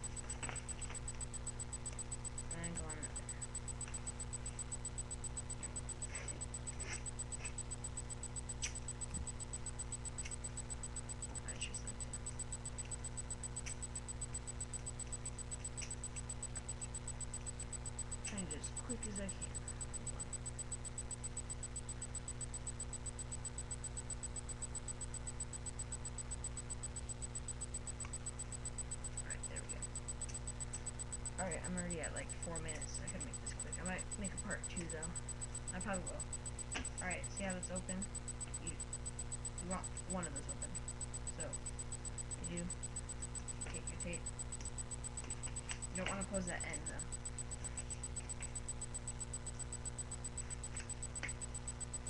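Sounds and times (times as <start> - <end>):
faint fast ticking: 0.0 - 52.0
low electrical hum: 0.0 - 52.0.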